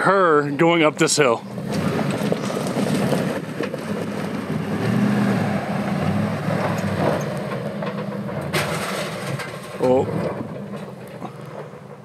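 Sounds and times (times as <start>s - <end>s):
truck engine pulling under load: 0.0s - 12.0s.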